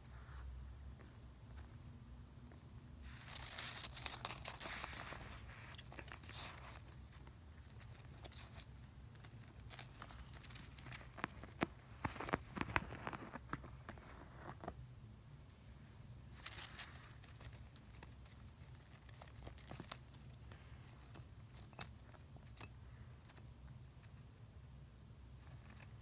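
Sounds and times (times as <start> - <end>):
low steady hum: 0.0 - 26.0
hamster nibbling and chewing: 3.0 - 14.8, 16.2 - 26.0.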